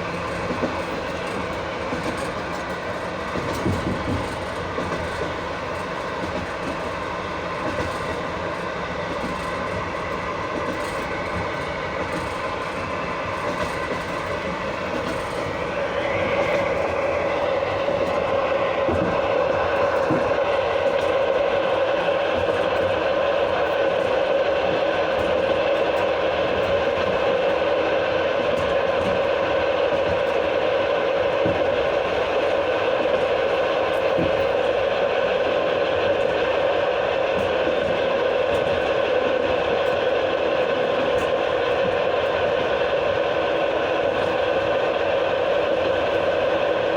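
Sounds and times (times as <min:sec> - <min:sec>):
steady brake whine: 0:00.0 - 0:46.9
train wheels rumbling on rails: 0:00.0 - 0:46.9.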